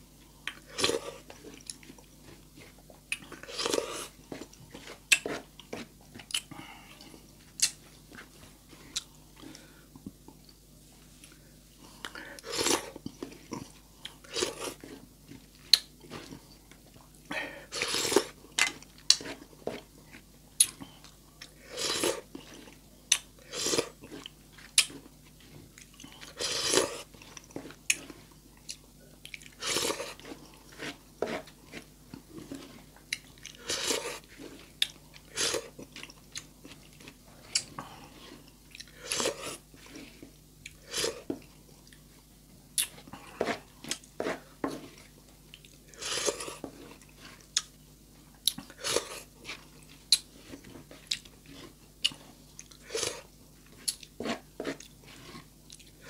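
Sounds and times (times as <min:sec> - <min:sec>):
person chewing noisily: 0:00.2 - 0:56.0.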